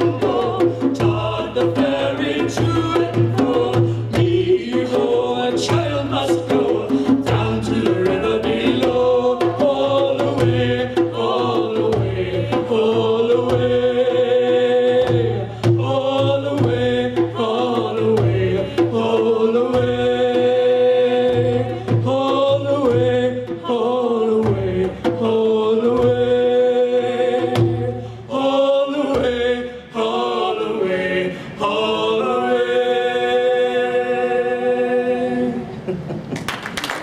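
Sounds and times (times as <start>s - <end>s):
hand-drum beat: 0.0s - 30.7s
voices singing shanty in harmony: 0.0s - 36.0s.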